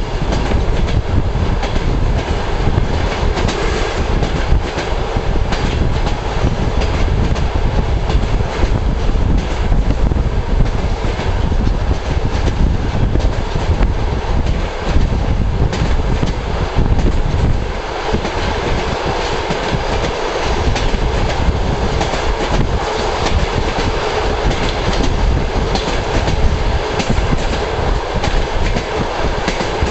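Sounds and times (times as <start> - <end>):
train rumble: 0.0 - 29.9
wheels clacking over rail joints: 1.6 - 29.9.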